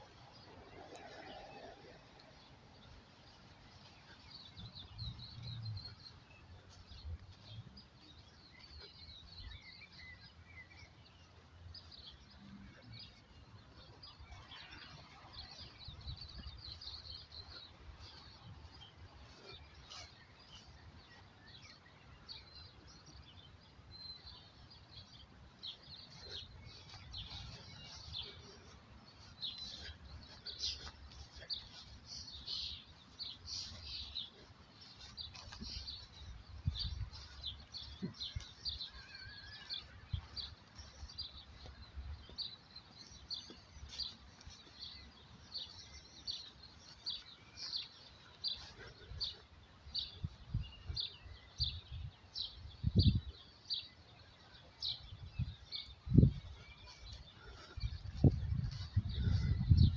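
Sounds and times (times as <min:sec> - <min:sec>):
birds chirping and singing: 0:00.0 - 0:59.9.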